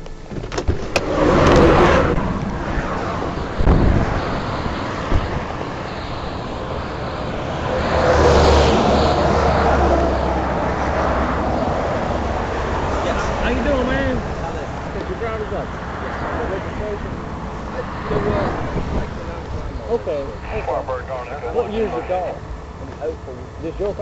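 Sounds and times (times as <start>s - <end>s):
low road rumble: 0.0s - 24.0s
vehicles passing by: 0.0s - 24.0s.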